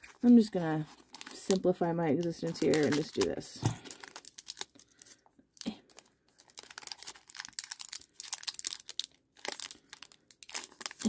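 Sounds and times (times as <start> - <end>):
foil wrapper crackling: 0.0 - 11.0.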